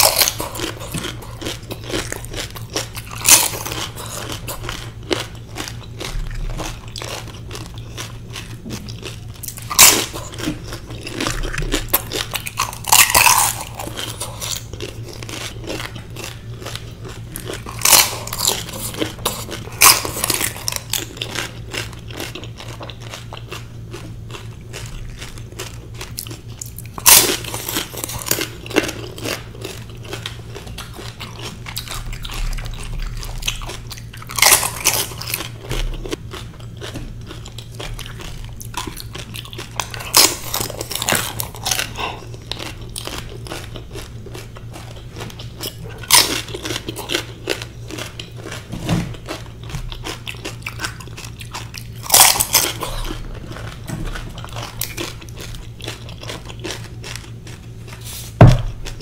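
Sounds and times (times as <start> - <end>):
fried shells crunching: 0.0 - 59.0
quiet chewing: 0.0 - 59.0.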